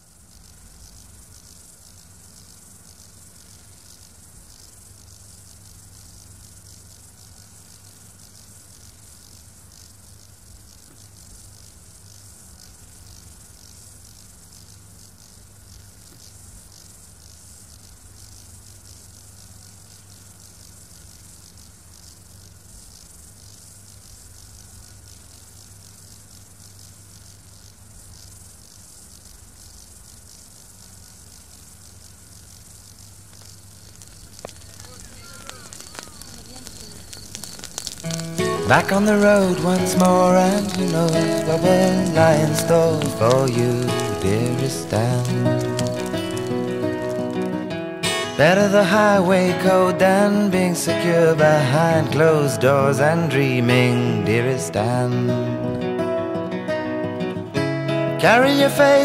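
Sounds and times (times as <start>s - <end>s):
faint steady whine: 0.0s - 59.0s
low mains hum: 0.0s - 59.0s
steady hiss: 0.0s - 59.0s.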